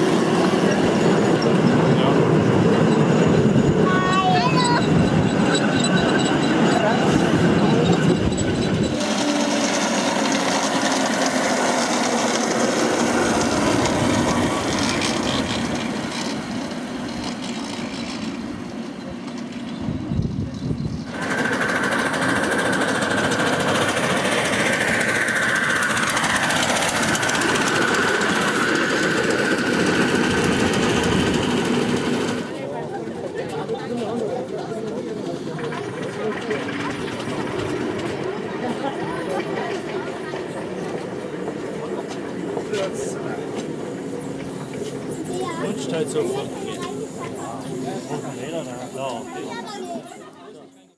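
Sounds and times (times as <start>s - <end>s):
train wheels clattering over rails: 0.0s - 49.9s.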